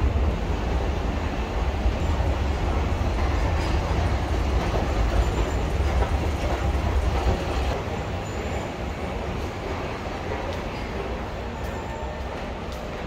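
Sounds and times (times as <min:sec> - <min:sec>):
underground train rumbling: 0:00.0 - 0:13.0.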